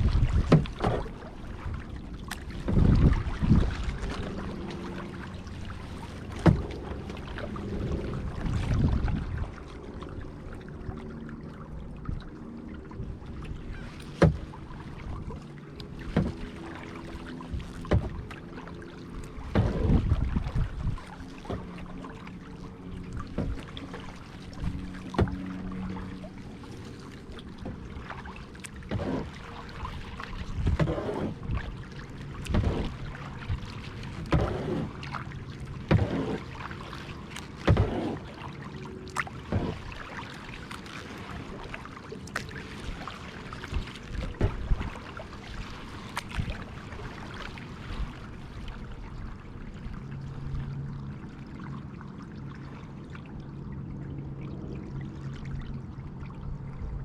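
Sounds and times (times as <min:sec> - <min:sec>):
paddle strokes splashing in water: 0:00.0 - 0:57.0.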